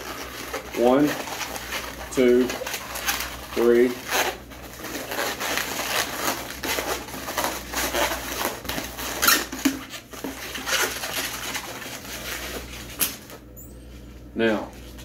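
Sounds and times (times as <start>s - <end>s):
rubber balloon squeaking: 0.0s - 12.6s.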